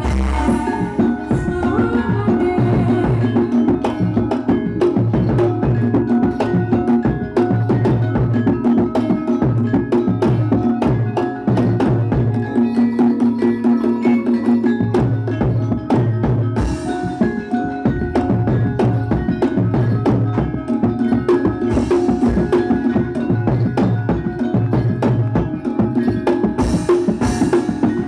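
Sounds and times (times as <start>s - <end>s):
rapid drum strokes: 0.0s - 28.0s
ringing metallophone tones: 0.0s - 28.0s.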